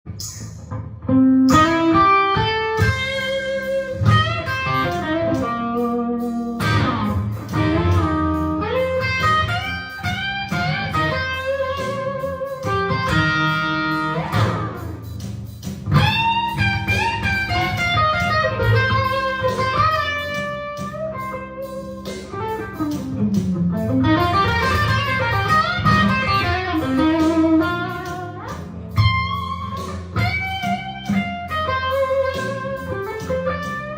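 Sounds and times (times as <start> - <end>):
electric guitar blues lead: 0.1 - 33.9
low accompaniment: 0.1 - 33.9.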